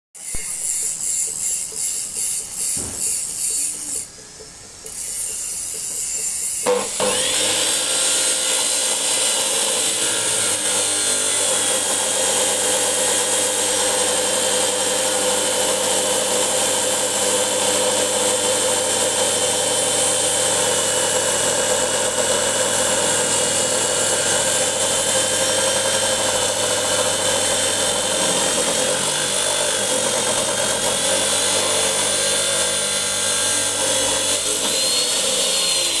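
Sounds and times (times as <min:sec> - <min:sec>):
chop saw grinding metal: 0:00.2 - 0:04.1, 0:04.9 - 0:36.0.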